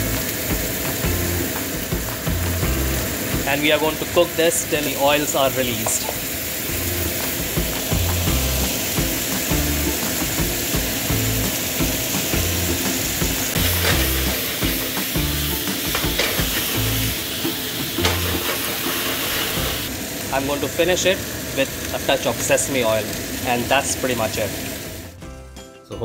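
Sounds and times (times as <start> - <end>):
background music: 0.0 - 20.4, 25.0 - 26.0
meat sizzling in a pan: 0.0 - 25.2.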